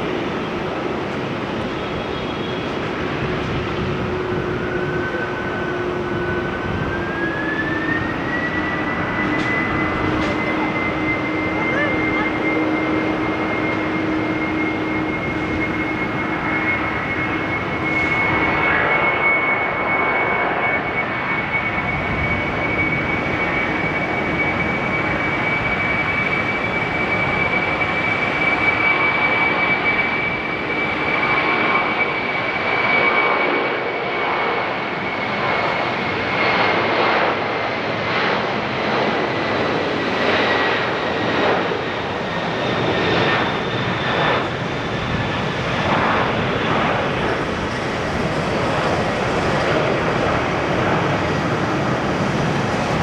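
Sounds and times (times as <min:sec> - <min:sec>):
jet engines passing: 0:00.0 - 0:53.0.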